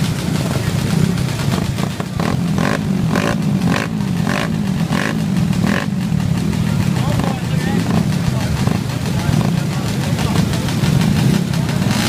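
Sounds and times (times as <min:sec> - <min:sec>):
small engines idling and revving: 0:00.0 - 0:12.0.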